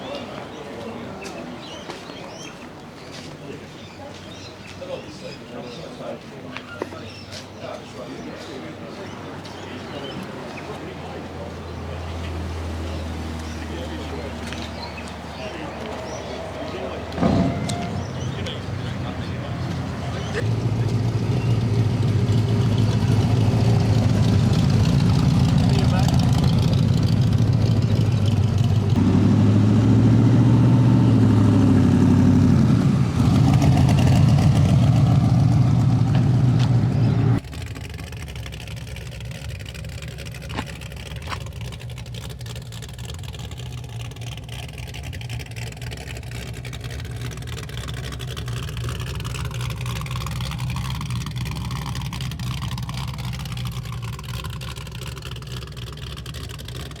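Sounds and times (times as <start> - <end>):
quiet engine idling: 8.3 - 57.0
car engine rumbling: 9.2 - 57.0.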